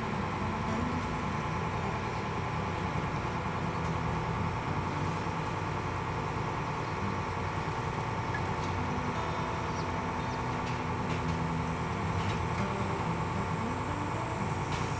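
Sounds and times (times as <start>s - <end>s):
boat diesel engine droning: 0.0s - 14.9s.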